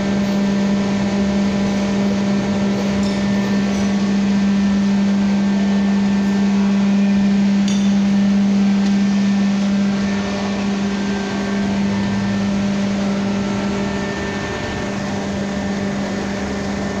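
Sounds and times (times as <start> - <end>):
hydraulic pump hum: 0.0 - 17.0.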